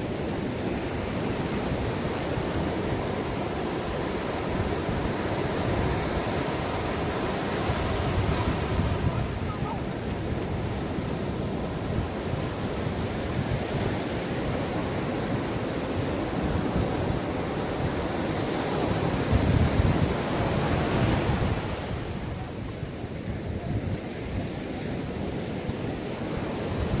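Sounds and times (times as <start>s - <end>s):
ocean waves breaking on beach: 0.0s - 27.0s
wind rumbling on microphone: 0.0s - 27.0s.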